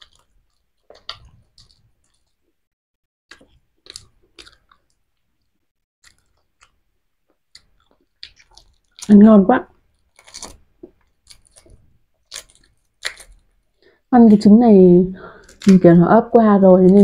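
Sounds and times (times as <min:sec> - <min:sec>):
quiet chewing: 0:00.0 - 0:02.6, 0:03.3 - 0:14.0, 0:15.2 - 0:15.8
eggshells being peeled: 0:00.0 - 0:02.7, 0:03.3 - 0:14.4, 0:15.2 - 0:16.0.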